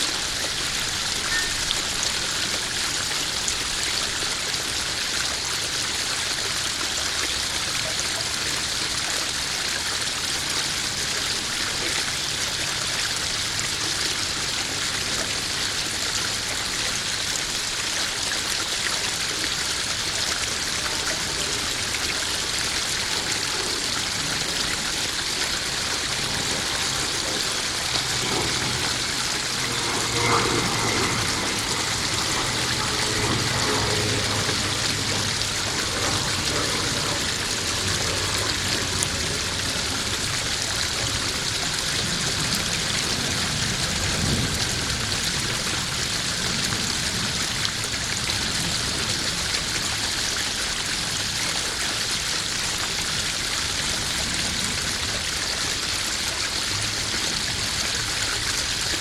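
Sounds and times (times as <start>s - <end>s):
water splashing into pond: 0.0s - 59.0s.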